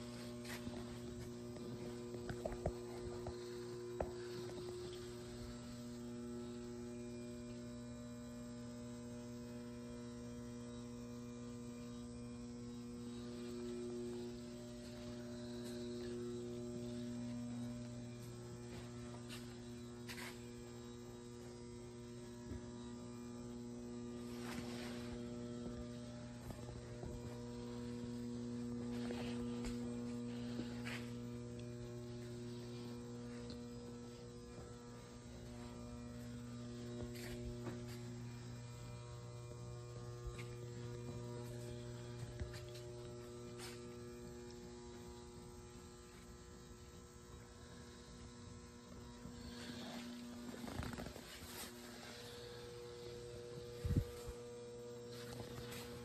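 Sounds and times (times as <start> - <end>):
electrical mains hum: 0.0 - 56.0.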